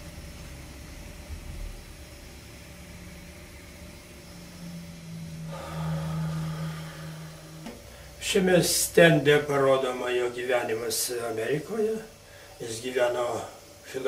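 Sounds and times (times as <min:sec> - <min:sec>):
faint room hiss: 0:00.0 - 0:14.0
mechanical hum: 0:00.0 - 0:14.0.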